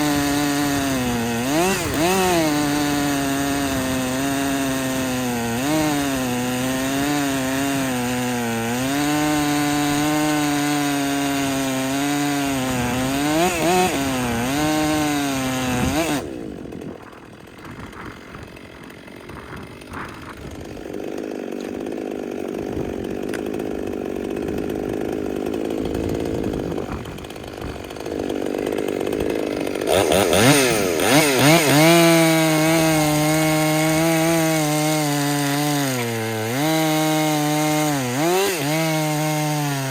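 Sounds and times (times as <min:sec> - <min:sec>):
chainsaw running and idling: 0:00.0 - 0:39.9.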